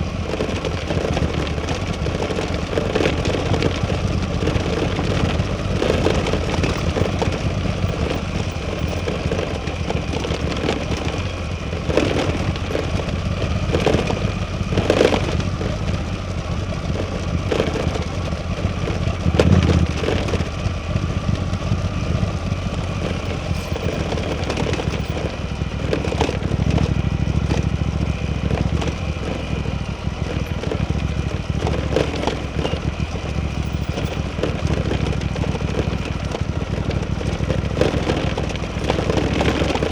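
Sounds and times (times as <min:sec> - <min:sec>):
motorcycle engine running at low revs: 0:00.0 - 0:39.9
sharp knocks and crackles: 0:00.3 - 0:39.9.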